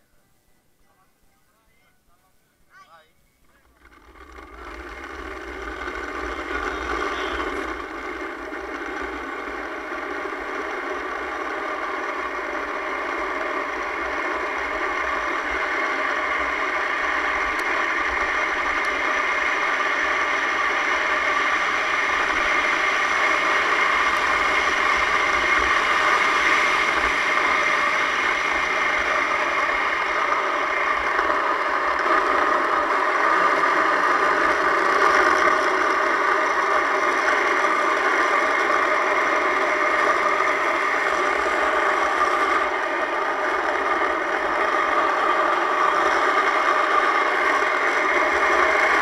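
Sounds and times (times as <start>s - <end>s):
cart wheels rumbling on asphalt: 3.5s - 49.0s.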